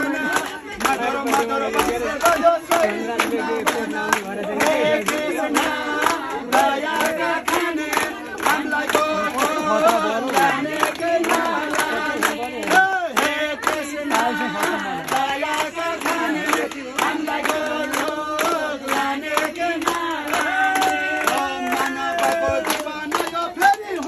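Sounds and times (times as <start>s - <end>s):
crowd chanting and singing: 0.0s - 24.0s.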